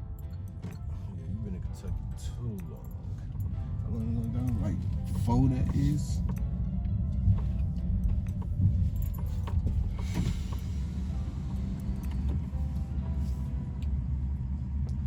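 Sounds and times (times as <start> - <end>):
car rumble inside cabin: 0.0 - 15.0.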